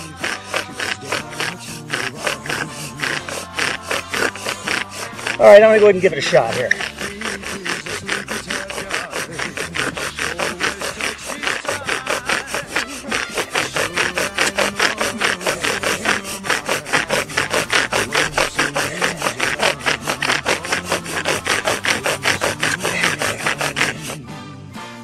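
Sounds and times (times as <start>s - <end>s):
bow drill rasping on wood: 0.0s - 24.2s.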